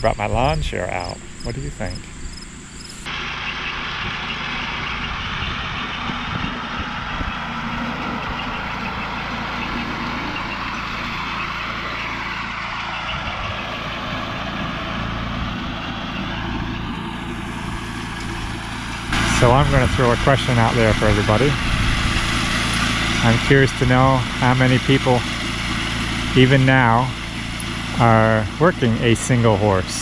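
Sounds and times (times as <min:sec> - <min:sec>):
hay tedder mechanical drone: 0:00.0 - 0:30.0.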